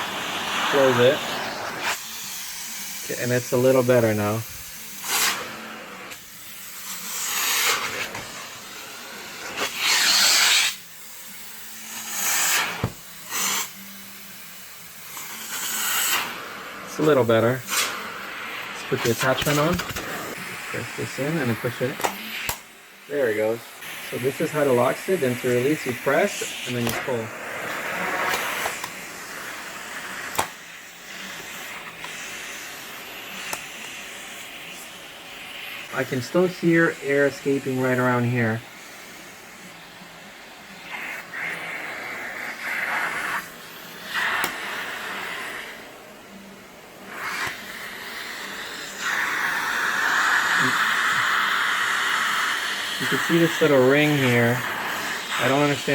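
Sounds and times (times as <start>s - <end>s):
vacuum hose rushing hiss: 0.0s - 55.9s.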